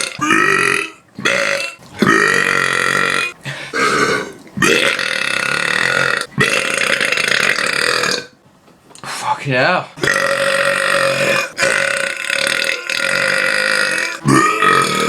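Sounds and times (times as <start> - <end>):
person belching: 0.0 - 8.4, 10.0 - 15.0.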